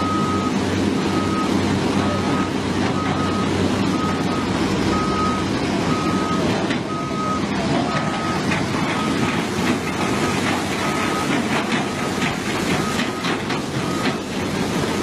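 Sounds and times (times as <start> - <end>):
reversing alarm beeping: 0.0 - 14.4
diesel engine running: 0.0 - 15.0.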